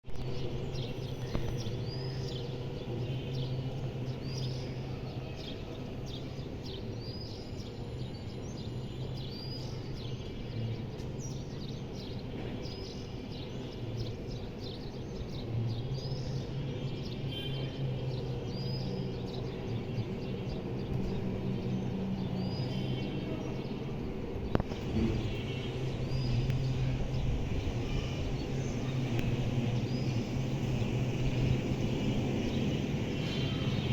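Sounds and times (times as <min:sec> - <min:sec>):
distant turboprop engines droning: 0:00.1 - 0:33.9.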